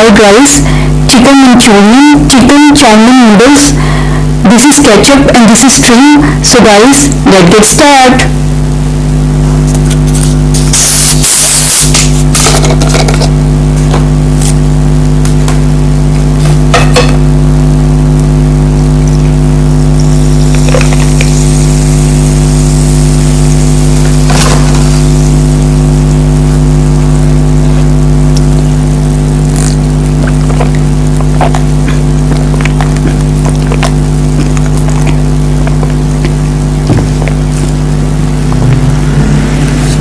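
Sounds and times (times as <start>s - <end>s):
loud steady hum: 0.0s - 40.0s.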